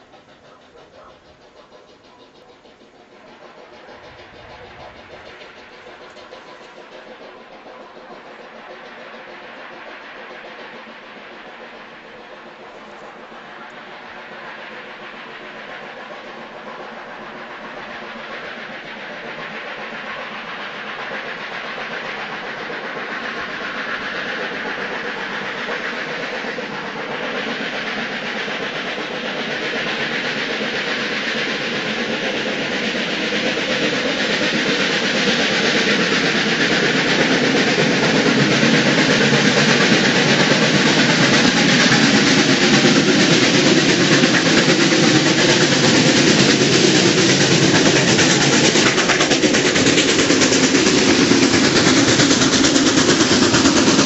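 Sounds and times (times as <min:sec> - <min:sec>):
steam locomotive working hard: 0:00.0 - 0:54.0.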